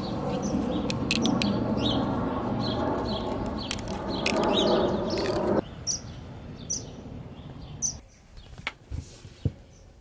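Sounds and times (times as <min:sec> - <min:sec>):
high bird chirps: 0:00.0 - 0:08.5
outdoor background noise: 0:00.0 - 0:10.0.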